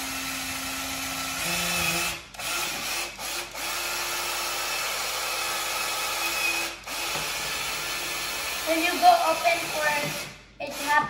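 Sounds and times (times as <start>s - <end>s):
cordless drill boring into wood: 0.0s - 11.0s.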